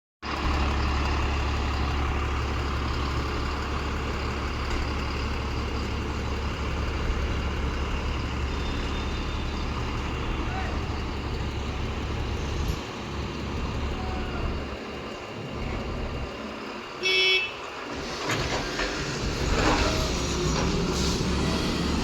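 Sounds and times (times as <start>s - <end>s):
heavy diesel engine humming: 0.2s - 22.0s.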